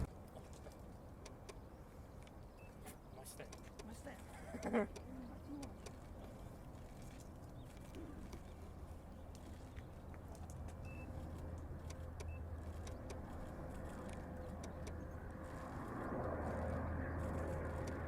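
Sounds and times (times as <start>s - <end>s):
distant turboprop engines droning: 0.0s - 18.0s.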